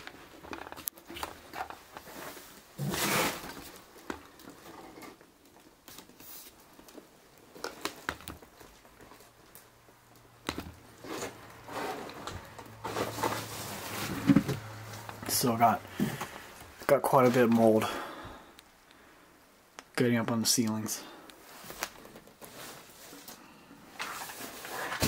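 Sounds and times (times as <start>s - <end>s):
rustling: 0.0s - 19.1s, 21.1s - 25.0s.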